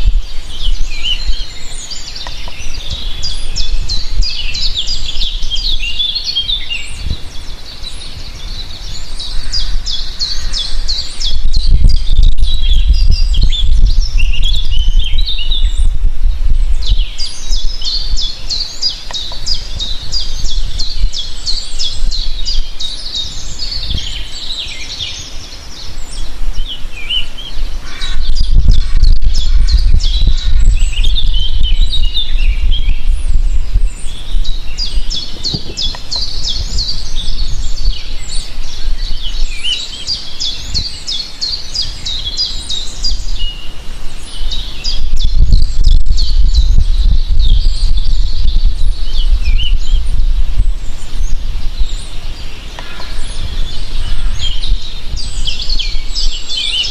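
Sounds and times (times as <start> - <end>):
songbirds singing: 0.0 - 56.9.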